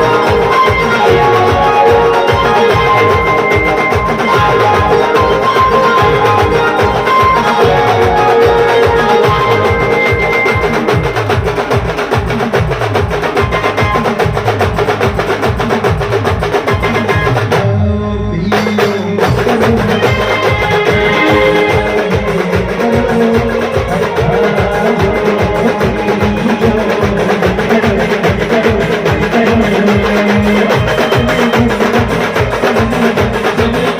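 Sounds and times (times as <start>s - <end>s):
fast steady drumming: 0.0s - 17.8s, 18.4s - 33.9s
band music: 0.0s - 33.9s.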